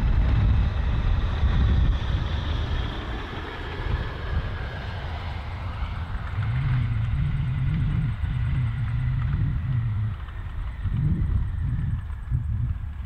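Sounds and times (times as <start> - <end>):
biplane engine droning: 0.0 - 13.0.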